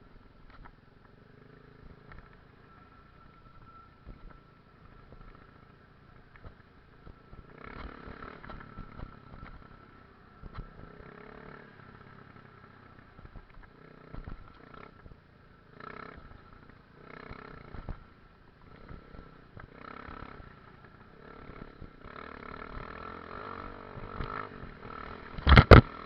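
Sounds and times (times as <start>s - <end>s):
faint motorcycle engine revving: 0.0s - 26.0s.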